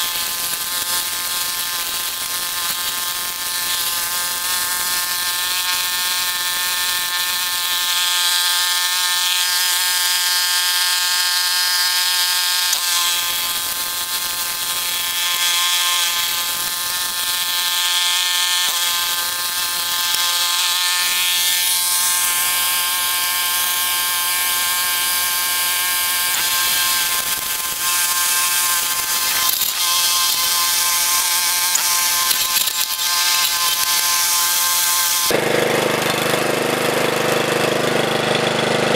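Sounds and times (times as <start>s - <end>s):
brush cutter engine drone: 0.0s - 38.9s.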